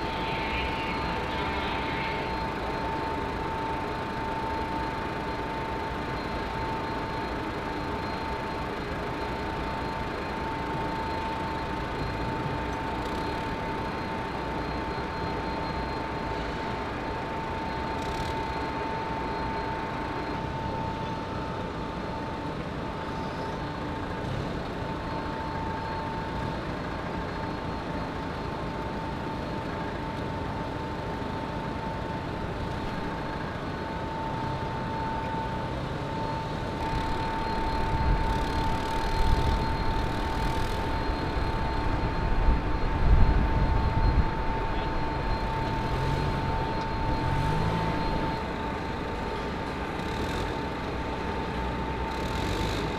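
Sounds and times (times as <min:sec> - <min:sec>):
high whine: 0:00.0 - 0:52.9
machinery hum: 0:00.0 - 0:52.9.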